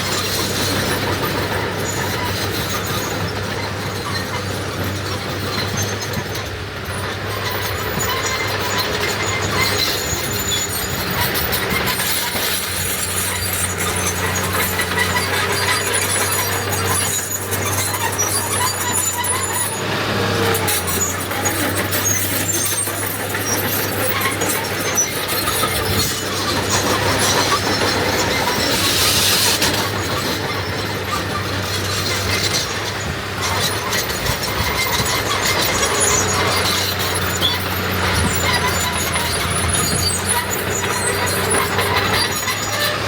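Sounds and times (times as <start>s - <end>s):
earth-moving machinery working: 0.0s - 43.0s
high squeaks: 7.3s - 43.0s.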